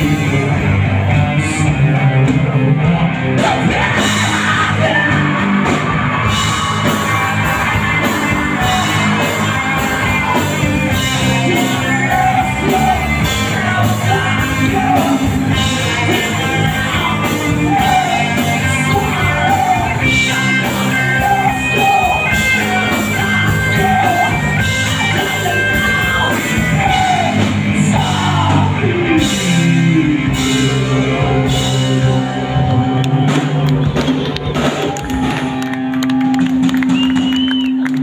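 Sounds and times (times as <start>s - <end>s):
man singing: 0.0s - 32.3s
live rock band playing: 0.0s - 38.0s.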